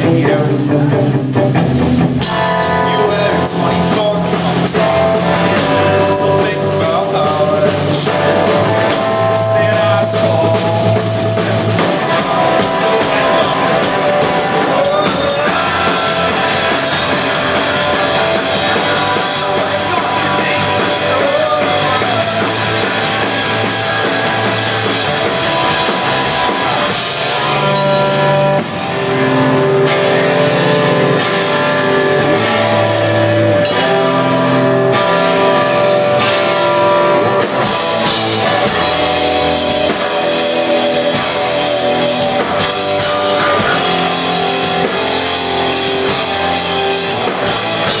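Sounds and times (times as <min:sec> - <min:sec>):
drums: 0:00.0 - 0:48.0
electric guitar: 0:00.0 - 0:48.0.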